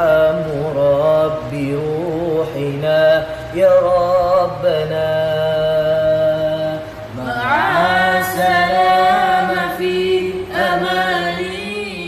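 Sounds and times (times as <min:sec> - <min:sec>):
voices singing devotional chant: 0:00.0 - 0:12.0.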